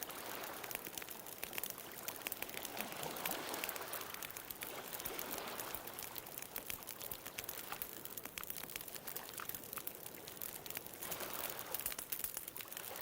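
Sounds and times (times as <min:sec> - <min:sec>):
ocean waves: 0:00.0 - 0:08.0, 0:08.7 - 0:13.0
bonfire crackling and popping: 0:00.0 - 0:13.0.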